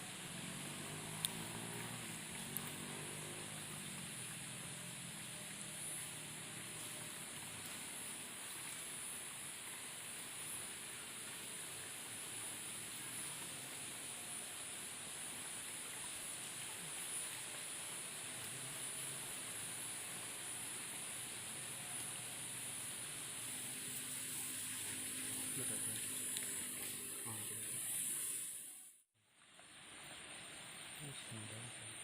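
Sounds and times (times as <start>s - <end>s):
high hiss: 0.0s - 32.0s
stream flowing: 0.0s - 32.0s.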